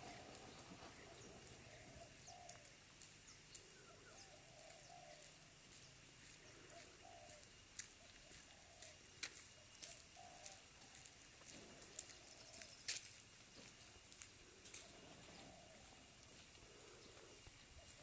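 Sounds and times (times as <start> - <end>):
dove cooing: 0.0 - 2.9, 3.6 - 5.7, 6.3 - 12.8, 14.4 - 18.0.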